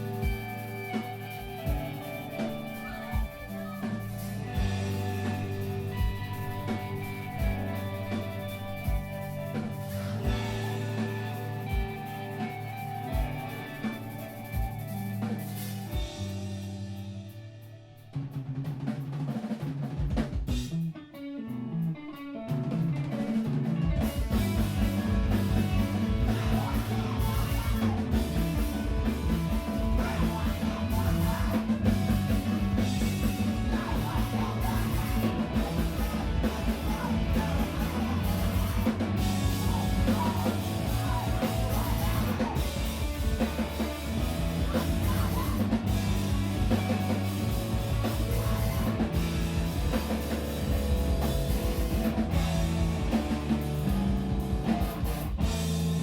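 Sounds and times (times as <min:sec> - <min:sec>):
drums: 0:00.0 - 0:56.0
electric guitar: 0:00.0 - 0:56.0
screamo band playing: 0:00.0 - 0:56.0.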